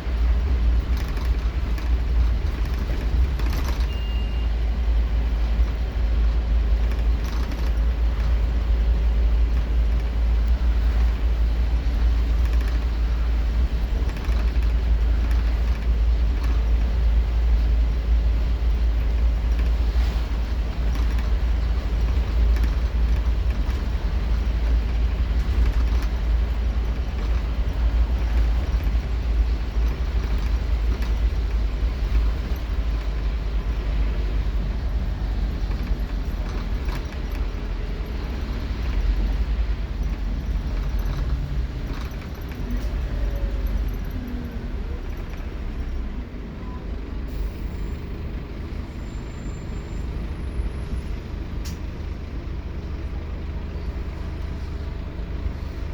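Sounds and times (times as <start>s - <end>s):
bus engine rumbling: 0.0s - 55.9s
road noise: 0.0s - 55.9s.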